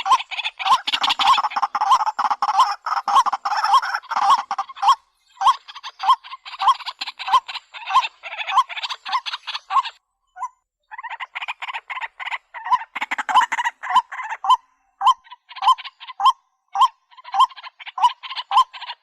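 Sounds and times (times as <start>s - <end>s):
bird harsh repeated calls: 0.0s - 19.0s.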